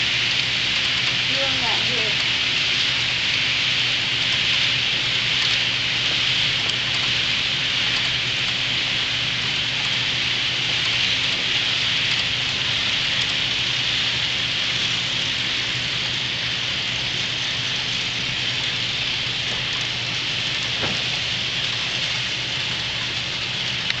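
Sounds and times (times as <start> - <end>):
model train wheels hissing: 0.0 - 24.0.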